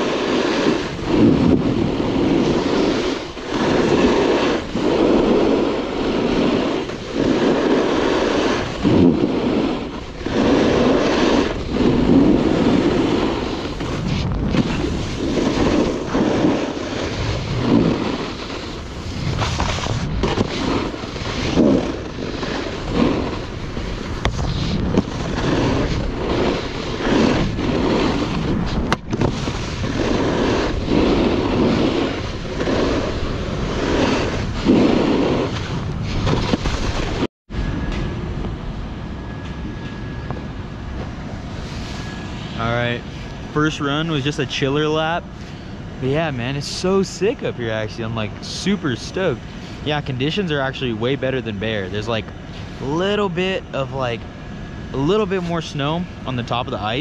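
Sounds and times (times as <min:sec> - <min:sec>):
snowboard scraping over snow: 0:00.0 - 0:37.3, 0:39.6 - 0:57.0
wind over microphone: 0:00.0 - 0:57.0.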